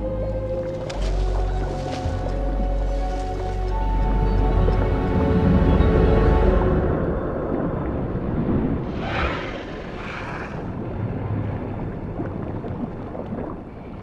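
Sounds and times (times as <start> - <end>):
rushing water swell: 0.0 - 14.0.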